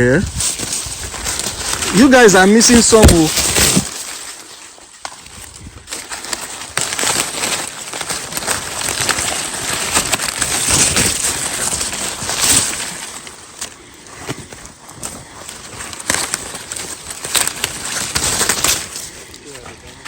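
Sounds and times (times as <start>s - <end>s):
dry leaves rustling and crackling: 0.0s - 20.0s
stalks snapping: 0.3s - 19.4s.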